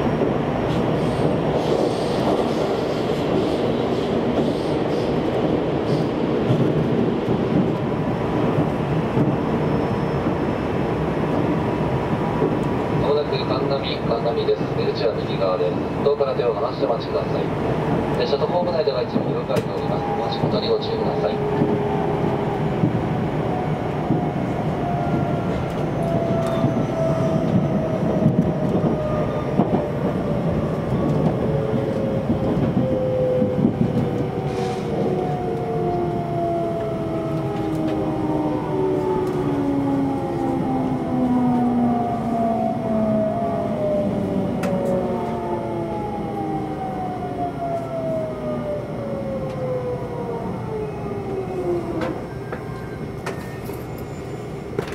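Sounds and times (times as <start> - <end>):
train wheel and running noise: 0.0 - 54.9.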